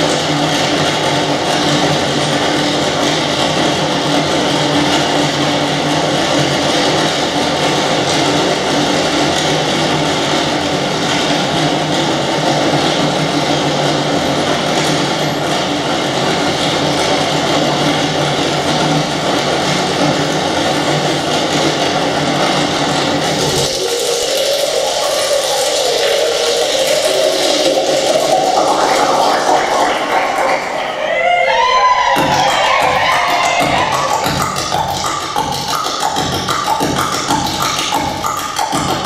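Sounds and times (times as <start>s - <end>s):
dense wash of noise: 0.0s - 39.0s.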